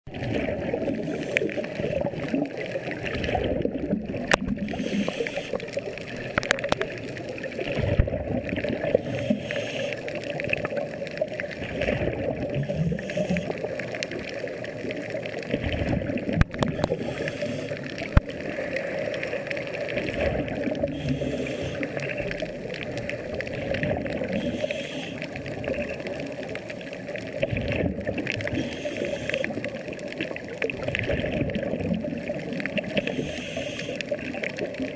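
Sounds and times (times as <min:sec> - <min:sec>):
underwater bubbling: 0:00.1 - 0:34.9.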